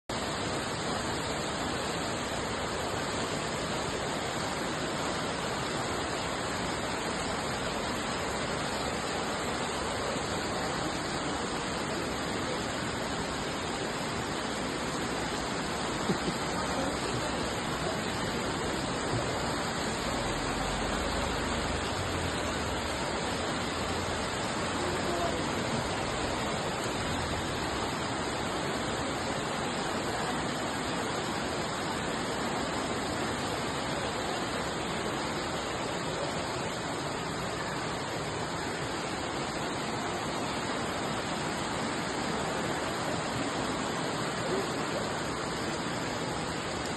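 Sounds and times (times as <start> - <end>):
rushing floodwater: 0.1 - 46.9.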